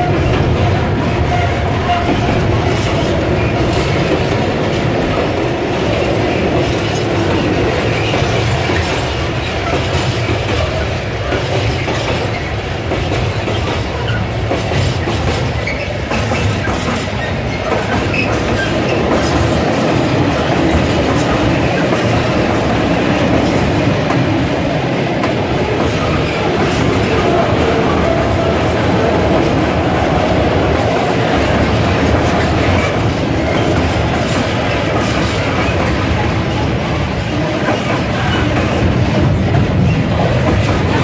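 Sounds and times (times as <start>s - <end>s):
train wheels clattering over rail joints: 0.0s - 41.0s.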